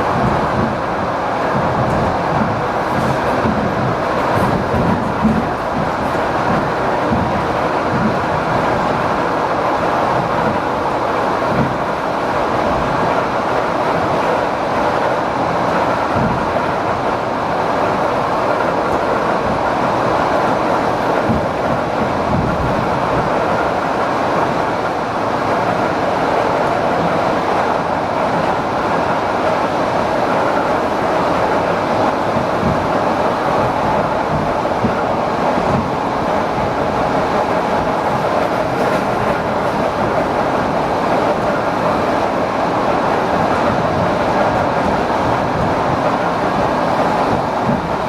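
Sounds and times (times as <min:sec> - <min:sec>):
train wheel and rail noise: 0:00.0 - 0:48.0.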